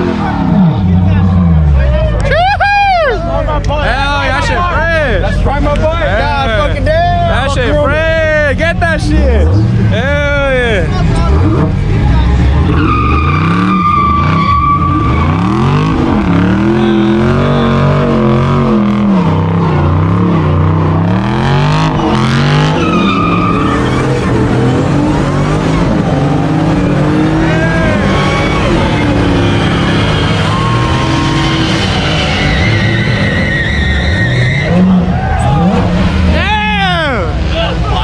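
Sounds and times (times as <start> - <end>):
car engine revving: 0.0 - 2.9, 3.5 - 38.0
tires squealing: 0.0 - 38.0.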